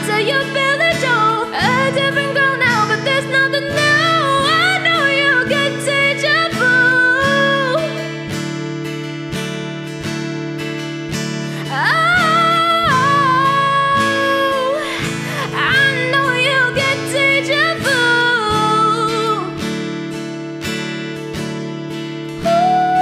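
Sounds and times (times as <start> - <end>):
woman singing: 0.0 - 8.8, 11.2 - 20.3, 22.3 - 23.0
acoustic guitar strumming: 0.0 - 23.0.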